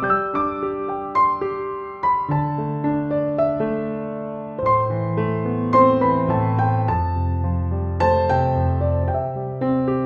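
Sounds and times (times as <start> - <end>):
soft electric piano: 0.0 - 10.0.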